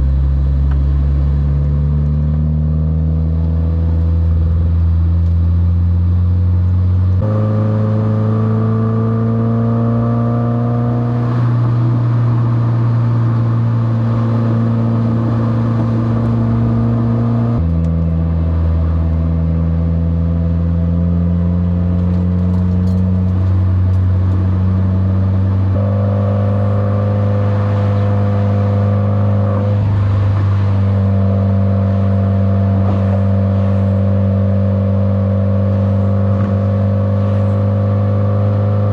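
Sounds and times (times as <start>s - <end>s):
car engine droning: 0.0s - 38.9s
road noise: 0.0s - 38.9s.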